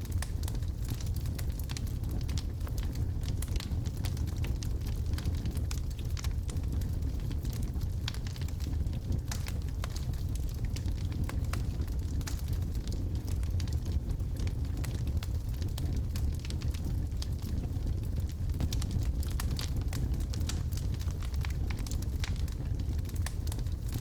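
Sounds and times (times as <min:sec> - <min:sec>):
logs crackling and popping: 0:00.0 - 0:24.0
low rumble of flames: 0:00.0 - 0:24.0.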